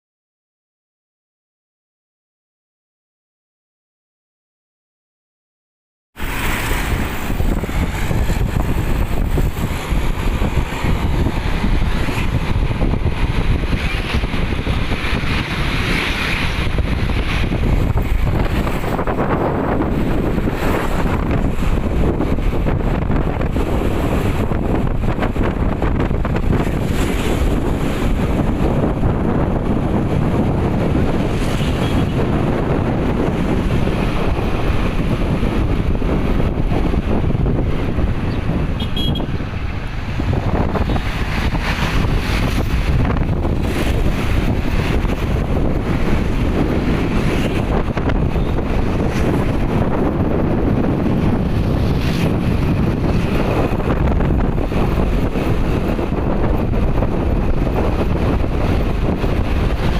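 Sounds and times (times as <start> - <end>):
moving vehicle noise: 6.2 - 59.9
wind buffeting microphone: 6.2 - 59.9.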